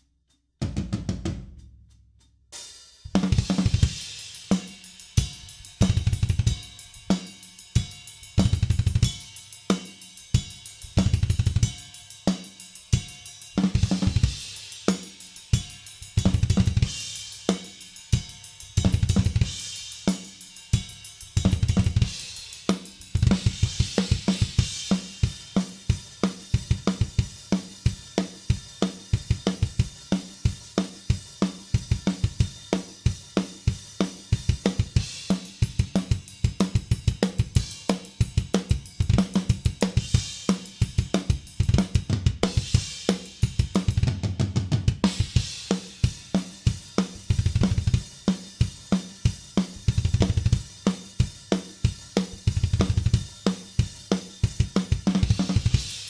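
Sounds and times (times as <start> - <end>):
drum kit playing: 0.6 - 56.0
fast bass drum strokes: 2.6 - 56.0.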